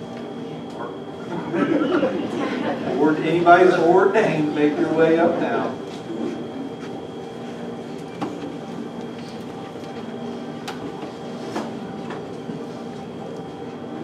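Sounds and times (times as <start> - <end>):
murmur of voices: 0.2 - 14.0.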